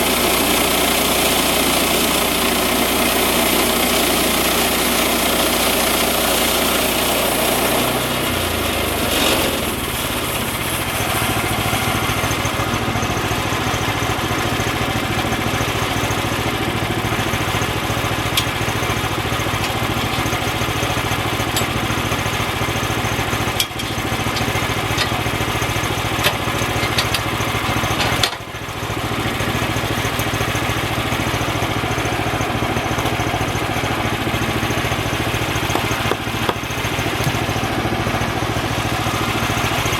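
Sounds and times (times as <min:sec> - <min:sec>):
engine-driven bandsaw sawing wood: 0:00.0 - 0:39.9.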